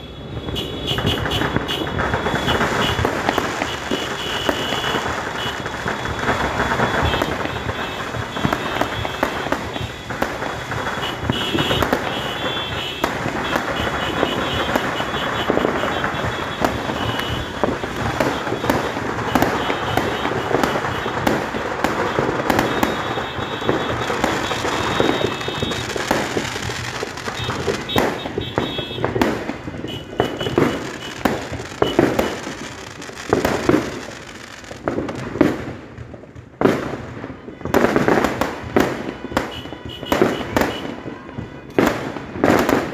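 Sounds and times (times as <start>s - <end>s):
fireworks crackling and banging: 0.0s - 42.9s.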